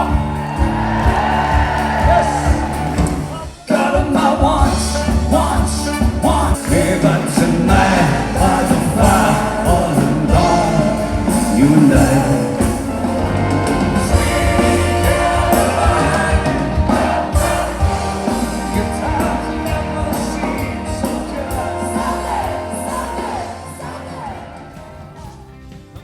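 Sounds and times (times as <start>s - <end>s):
live band music with singing: 0.0s - 26.0s.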